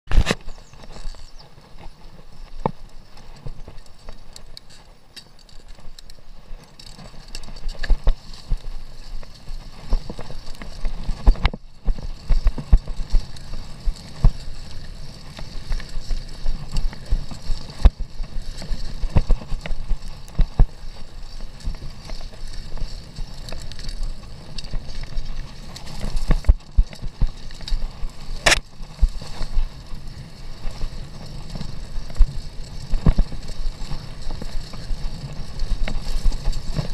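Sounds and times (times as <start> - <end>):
bike knocking and rattling: 0.1 - 36.9
bike tyre rumble on dirt: 0.1 - 36.9.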